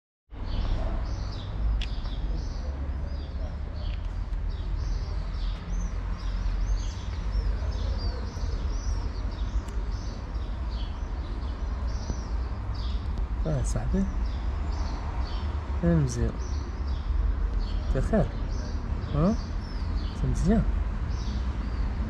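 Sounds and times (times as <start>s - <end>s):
small birds chirping: 0.3s - 22.0s.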